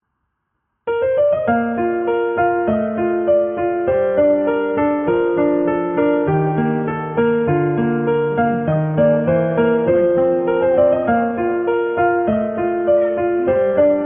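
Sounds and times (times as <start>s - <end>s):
calm piano music: 0.9s - 14.0s.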